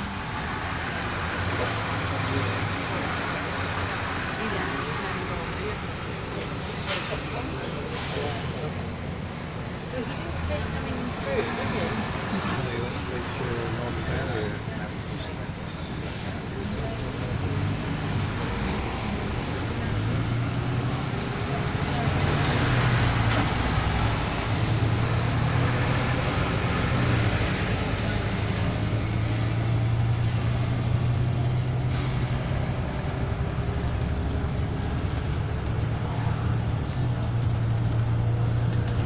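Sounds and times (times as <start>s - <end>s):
bus diesel engine hum: 0.0s - 39.0s
road noise: 0.0s - 39.0s.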